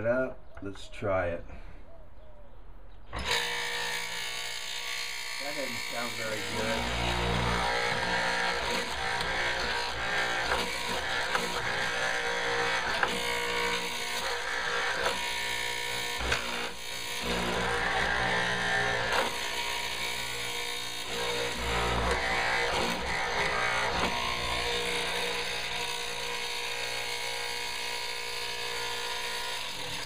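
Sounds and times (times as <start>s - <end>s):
mortising machine motor humming: 3.2s - 30.0s.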